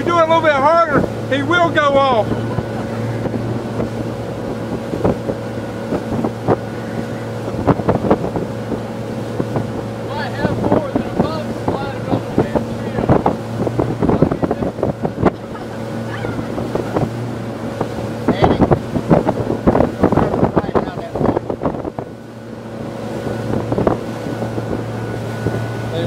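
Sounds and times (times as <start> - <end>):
motorboat engine running: 0.0 - 26.0
water slapping against hull: 0.0 - 26.0
wind on microphone: 0.0 - 26.0.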